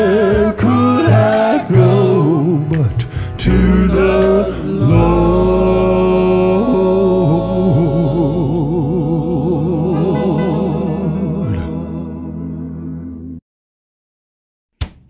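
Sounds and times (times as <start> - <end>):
gospel voices singing with vibrato: 0.0 - 13.4.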